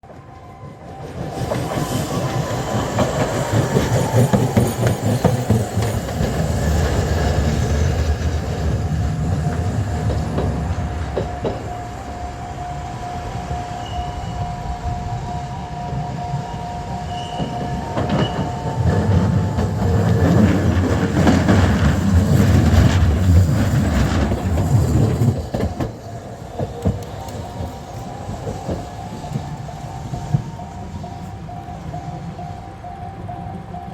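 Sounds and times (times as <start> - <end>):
steady high tone: 0.0 - 21.4, 26.0 - 33.9
tram wheels clacking on rails: 0.0 - 33.9.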